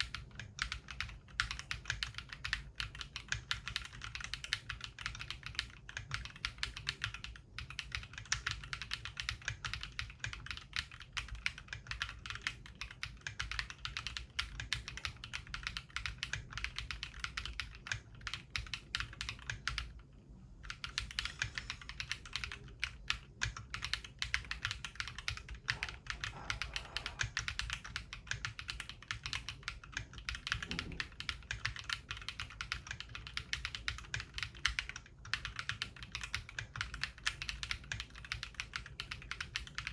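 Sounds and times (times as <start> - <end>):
fast mechanical keyboard typing: 0.0 - 20.0, 20.6 - 39.9.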